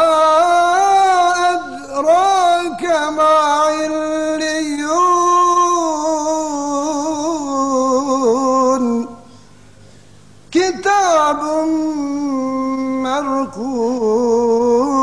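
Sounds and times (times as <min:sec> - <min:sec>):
man chanting melodically: 0:00.0 - 0:09.4, 0:10.5 - 0:15.0.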